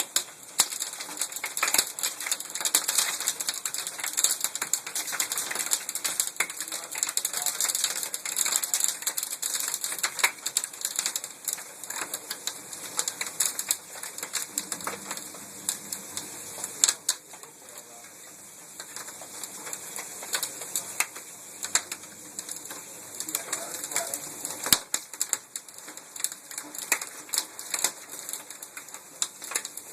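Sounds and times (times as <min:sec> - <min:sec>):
hailstones striking hard surfaces: 0:00.0 - 0:29.9.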